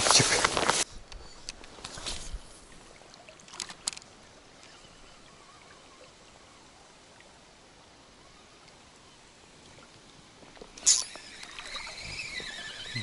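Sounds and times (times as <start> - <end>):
river current rippling: 0.0 - 13.0.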